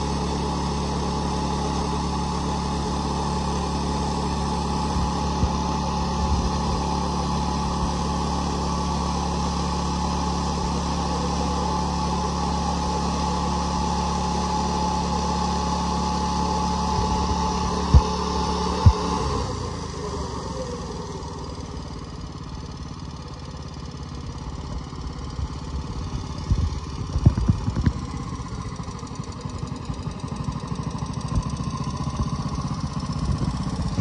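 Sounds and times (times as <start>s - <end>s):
small gasoline engine running: 0.0s - 34.0s.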